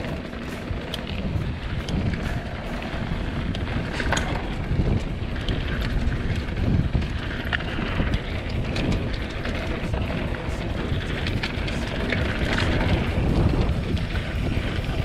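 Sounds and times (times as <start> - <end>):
bike frame and chain rattling: 0.0 - 15.0
tyres rumbling on dirt: 0.0 - 15.0
wind buffeting microphone: 0.0 - 15.0.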